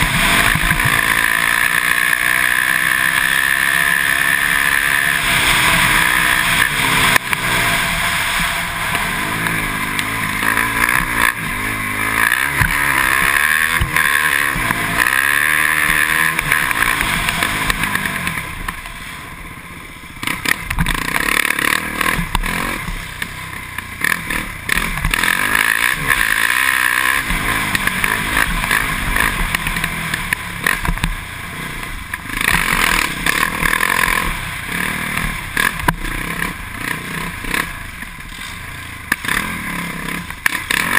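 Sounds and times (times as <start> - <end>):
quad engine revving: 0.0 - 19.1, 20.2 - 40.9.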